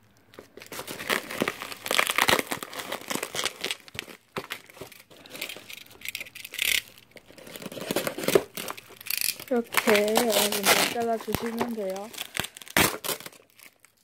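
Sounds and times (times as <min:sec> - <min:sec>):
bubble wrap crinkling and crackling: 0:00.0 - 0:14.0.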